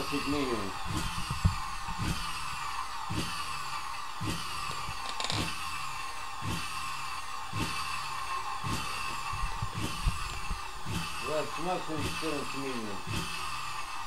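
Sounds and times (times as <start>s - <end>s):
motor pulsing knock and whine: 0.0s - 14.0s
steady high whine: 0.0s - 14.0s.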